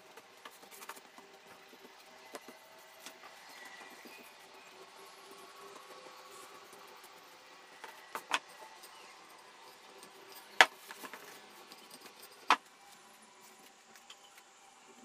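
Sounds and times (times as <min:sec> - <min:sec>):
rolling pin rolling dough: 0:00.0 - 0:13.0.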